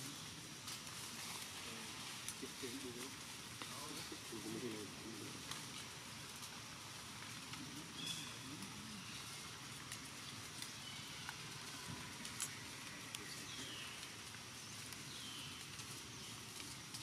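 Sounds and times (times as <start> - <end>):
faint clicks and rustles: 0.0 - 17.0
steady high hiss: 0.0 - 17.0.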